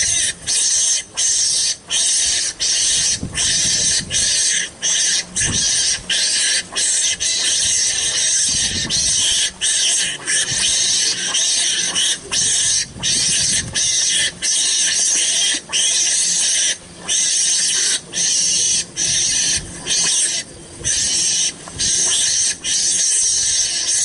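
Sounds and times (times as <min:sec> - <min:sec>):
shrill high-pitched animal sound: 0:00.0 - 0:24.0.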